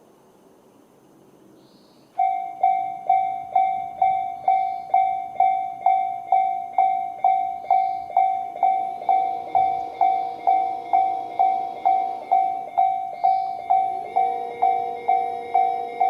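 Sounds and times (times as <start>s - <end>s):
level crossing electronic bell: 2.2s - 16.0s.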